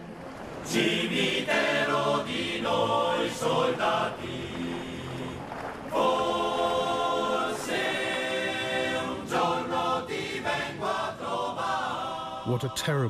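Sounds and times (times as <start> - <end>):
choir singing: 0.6 - 13.0.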